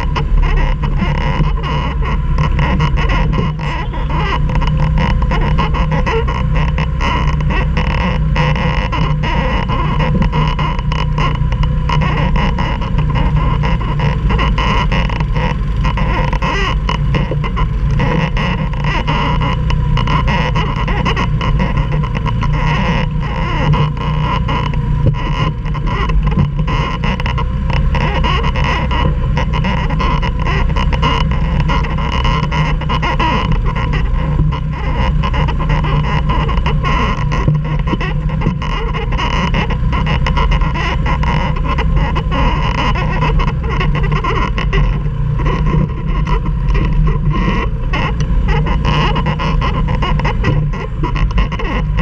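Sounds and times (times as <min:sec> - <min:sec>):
atv engine running: 0:00.0 - 0:52.0.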